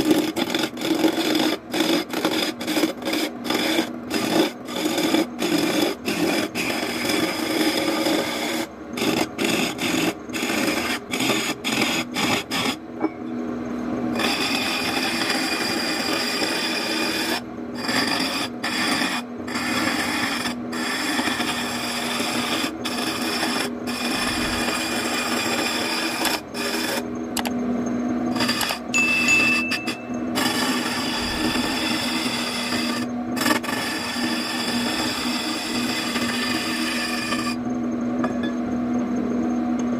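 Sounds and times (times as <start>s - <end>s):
chisel scraping on wood lathe: 0.0s - 12.8s, 14.1s - 27.5s, 28.3s - 37.6s
lathe hum: 0.0s - 39.9s.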